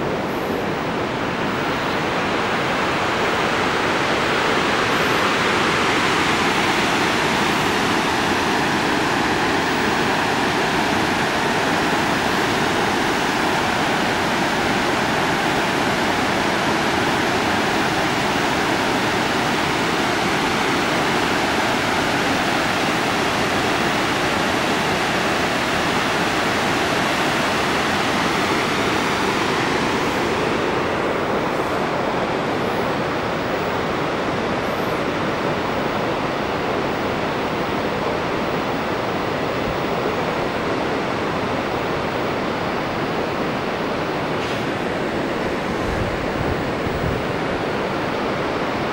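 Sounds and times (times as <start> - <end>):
river water rushing over rocks: 0.0 - 48.9.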